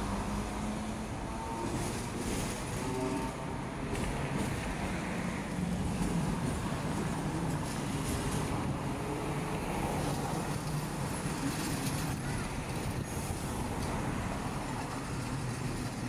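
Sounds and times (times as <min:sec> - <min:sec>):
street traffic: 0:00.0 - 0:16.0
tram rumbling in motion: 0:00.0 - 0:16.0.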